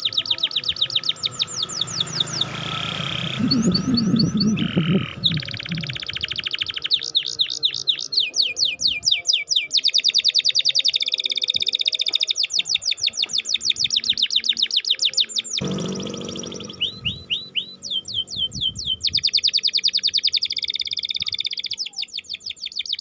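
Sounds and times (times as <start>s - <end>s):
canary singing trills: 0.0s - 23.0s.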